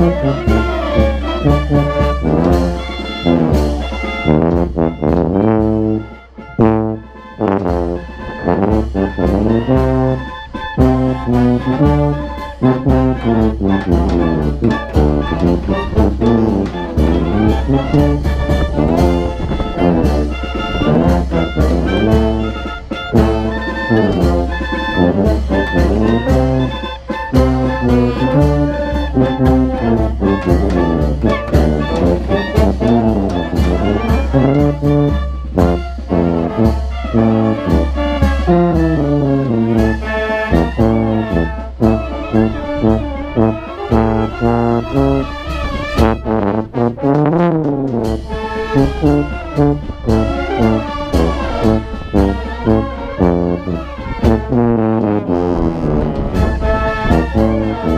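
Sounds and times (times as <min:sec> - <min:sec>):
brass band playing: 0:00.0 - 0:57.9
percussion hits: 0:00.0 - 0:57.9
tuba bass line: 0:00.0 - 0:57.9.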